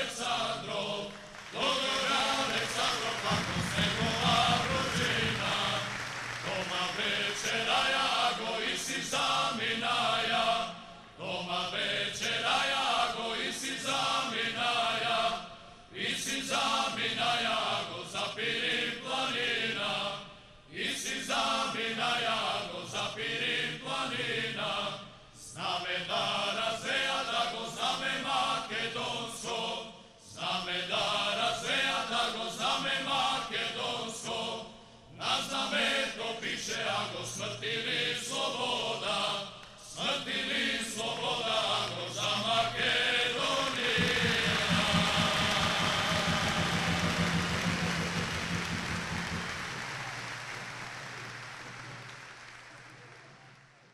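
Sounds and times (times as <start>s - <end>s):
male choir singing a cappella: 0.0s - 47.3s.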